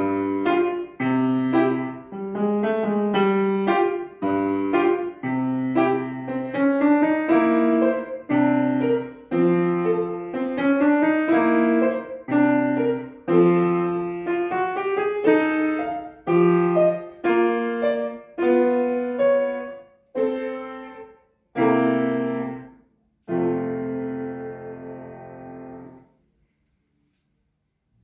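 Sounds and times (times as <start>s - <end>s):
classical piano piece: 0.0s - 26.2s.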